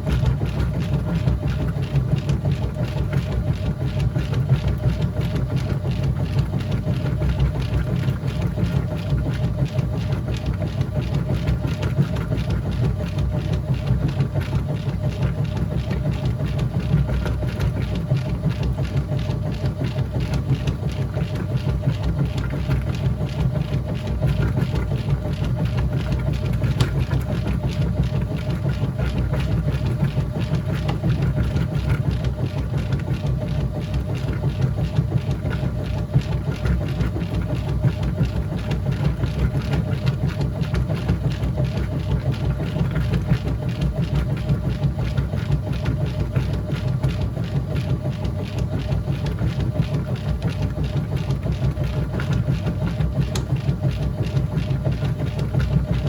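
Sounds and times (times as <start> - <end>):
washing machine motor hum: 0.0 - 56.0.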